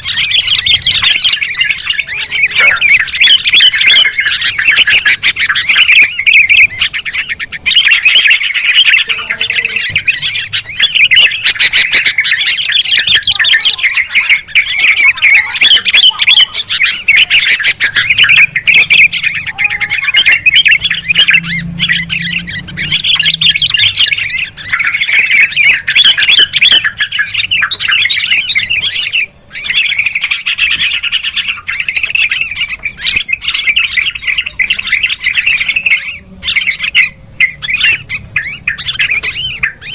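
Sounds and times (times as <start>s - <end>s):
bulbuls chattering: 0.0s - 39.9s.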